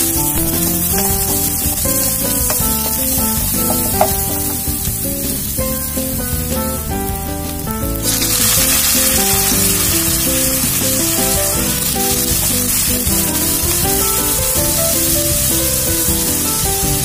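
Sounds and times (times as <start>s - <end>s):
background music: 0.0s - 17.0s
oil sizzling in wok: 0.0s - 17.0s.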